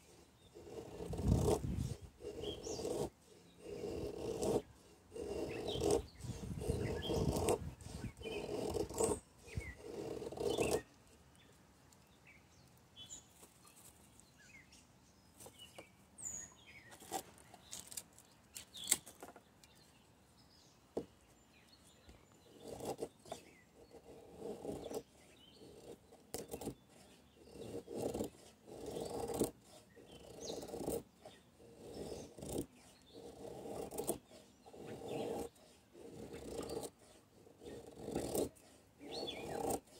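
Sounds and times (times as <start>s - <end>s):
knife scraping wood: 0.0s - 11.5s, 15.4s - 19.8s, 21.9s - 39.9s.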